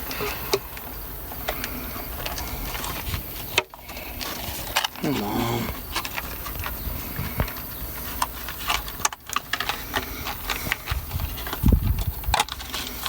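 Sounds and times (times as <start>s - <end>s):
rustles of handling wire: 0.0s - 13.0s.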